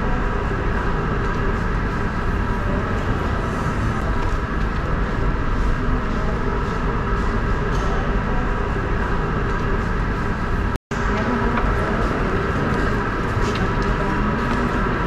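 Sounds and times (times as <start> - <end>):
indoor hall rumble and hum: 0.0 - 15.0.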